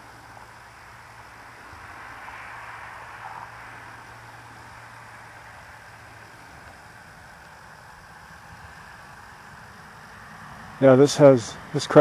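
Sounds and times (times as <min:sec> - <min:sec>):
low hum: 0:00.0 - 0:10.8
steady hiss: 0:00.0 - 0:12.0.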